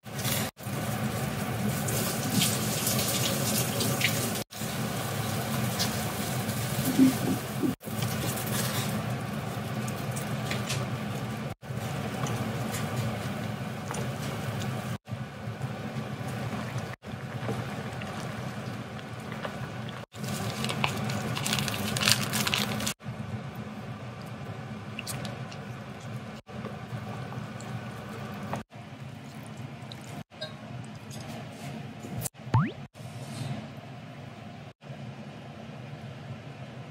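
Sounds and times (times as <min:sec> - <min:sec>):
water boiling and bubbling: 0:00.0 - 0:31.5, 0:32.6 - 0:32.9.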